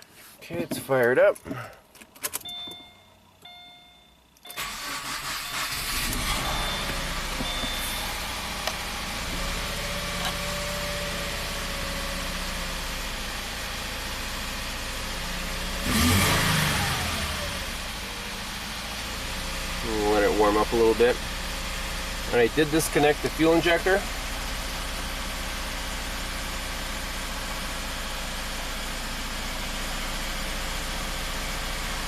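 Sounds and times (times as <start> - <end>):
car engine starting and idling: 0.5 - 32.0.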